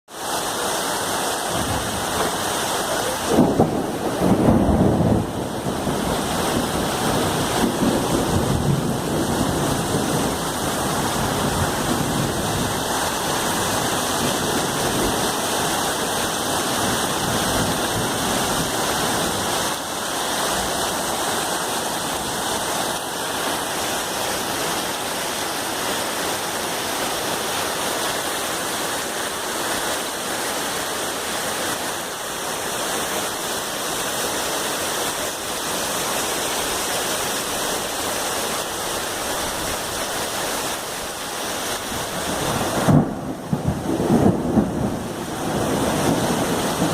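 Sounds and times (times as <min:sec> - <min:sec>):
heavy rain pouring: 0:00.1 - 0:46.9.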